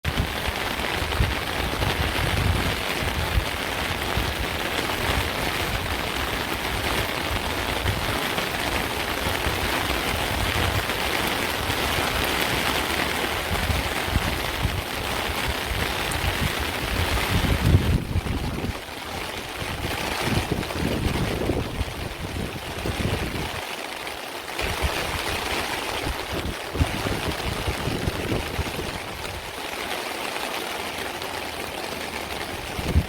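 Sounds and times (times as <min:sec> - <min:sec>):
rain on hard surfaces: 0:00.0 - 0:33.0.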